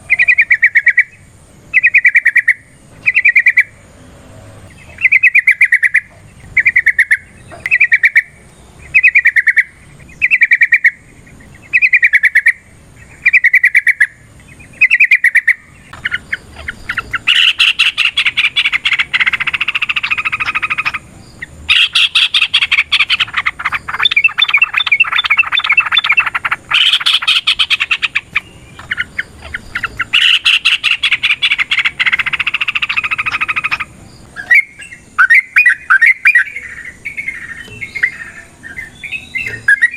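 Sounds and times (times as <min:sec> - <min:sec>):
rapid bird chattering: 0:00.0 - 0:03.9, 0:04.6 - 0:39.9
bird singing short phrases: 0:00.0 - 0:39.9.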